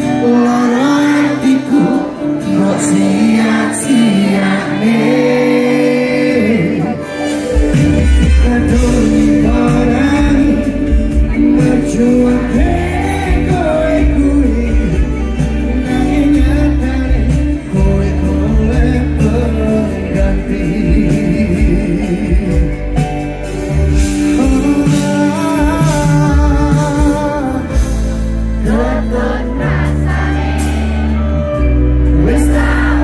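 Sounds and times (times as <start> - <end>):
live pop band playing: 0.0 - 33.0
person singing: 0.0 - 33.0.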